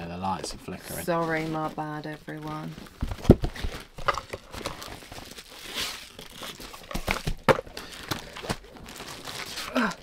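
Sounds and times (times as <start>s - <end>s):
packaging rustling and crinkling: 1.0s - 10.0s.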